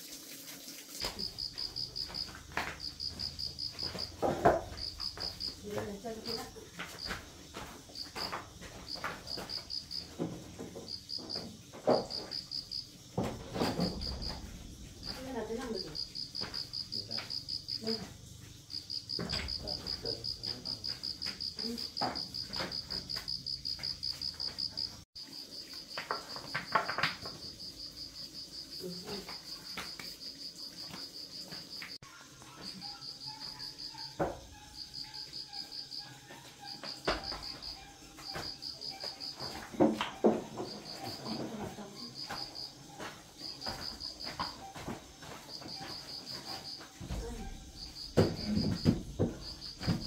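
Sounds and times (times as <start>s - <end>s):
cricket chirping: 1.0s - 50.0s.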